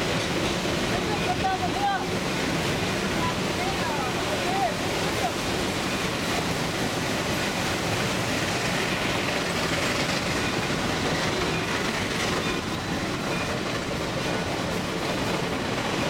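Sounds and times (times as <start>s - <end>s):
train wheels on rail: 0.0s - 16.0s
whitewater rapids rushing: 0.0s - 16.0s.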